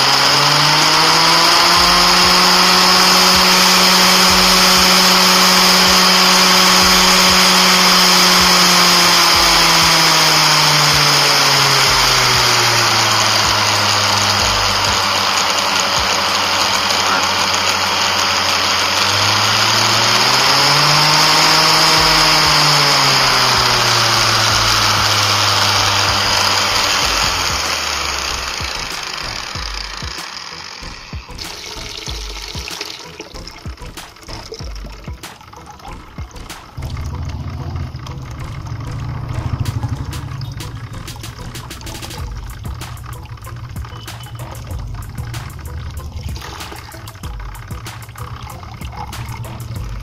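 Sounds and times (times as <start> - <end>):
angle grinder motor whine: 0.0 - 50.0.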